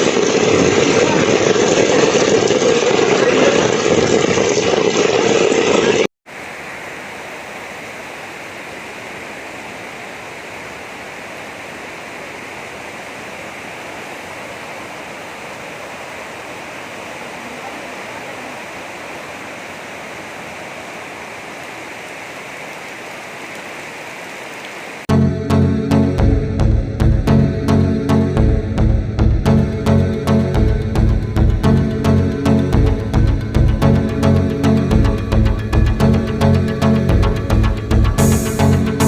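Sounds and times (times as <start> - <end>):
heavy rain falling: 0.0 - 25.1, 29.2 - 39.0.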